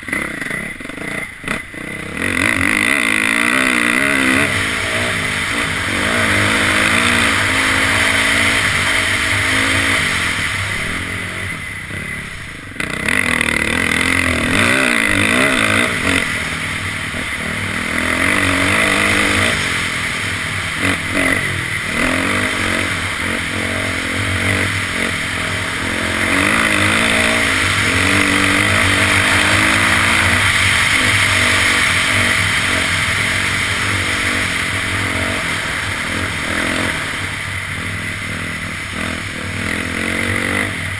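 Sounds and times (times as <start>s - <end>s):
clatter: 0.0s - 40.9s
dirt bike engine revving: 0.0s - 40.9s.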